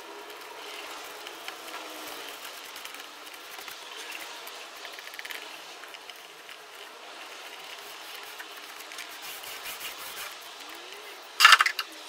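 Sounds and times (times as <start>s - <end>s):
foam brush scratching: 0.0s - 11.8s.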